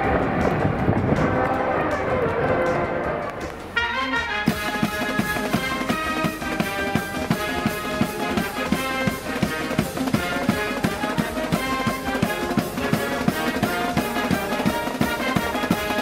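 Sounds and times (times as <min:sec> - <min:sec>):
brass and drums music: 0:00.0 - 0:16.0.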